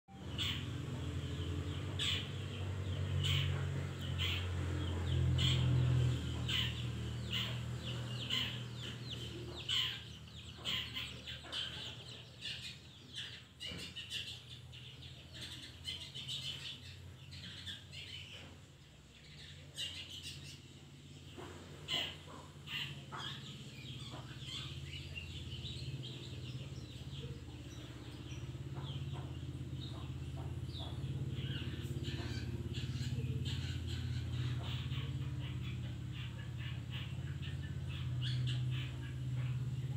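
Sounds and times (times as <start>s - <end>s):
bird chirping and chattering: 0.1s - 39.9s
low steady rumble: 0.1s - 39.9s.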